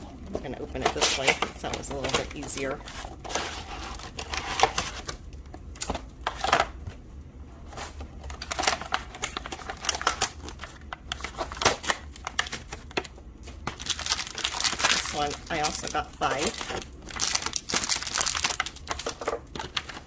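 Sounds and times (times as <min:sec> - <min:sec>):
plastic and cardboard crinkling: 0:00.3 - 0:07.0, 0:07.6 - 0:20.0.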